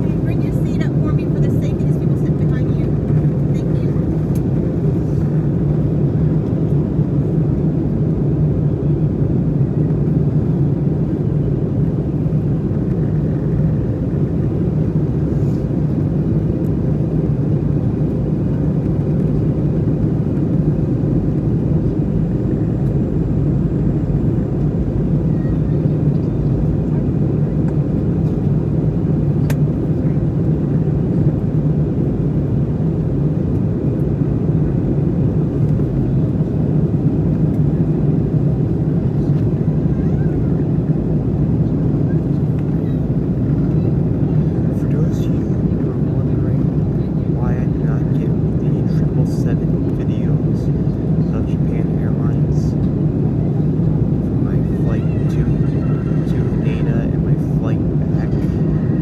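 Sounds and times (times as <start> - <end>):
aircraft engines rumbling: 0.0 - 59.0.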